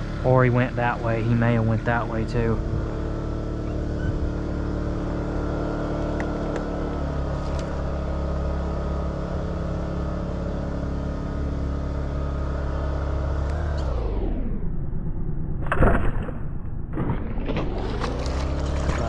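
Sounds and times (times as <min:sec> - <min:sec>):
boat motor running: 0:00.0 - 0:14.7, 0:17.5 - 0:19.0.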